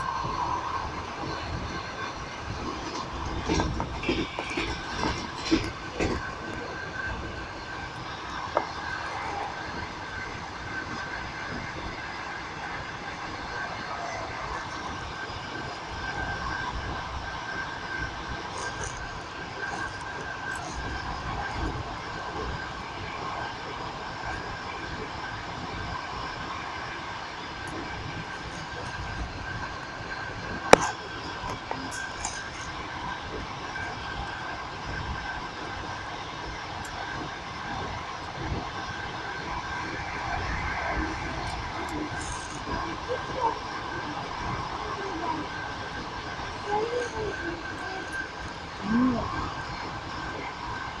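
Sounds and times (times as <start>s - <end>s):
train wheels clacking on rails: 0.0s - 51.0s.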